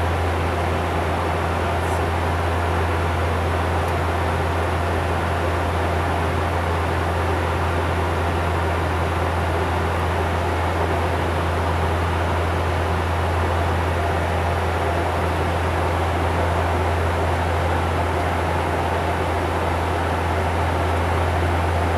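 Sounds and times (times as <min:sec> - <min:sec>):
turboprop engine drone in cockpit: 0:00.0 - 0:21.9.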